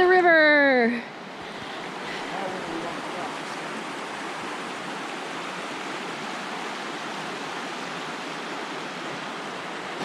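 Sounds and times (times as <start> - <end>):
creek water rushing over rocks: 1.1 - 10.0.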